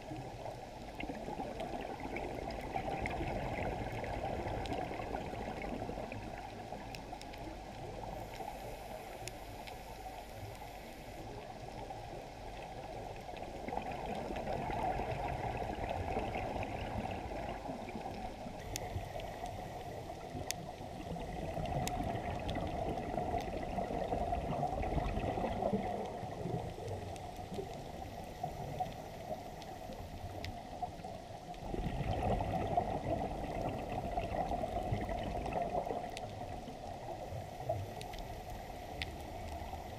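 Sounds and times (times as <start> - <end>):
regulator bubbles bubbling: 0.0 - 10.6, 11.2 - 39.9
underwater watery rush: 0.0 - 39.9.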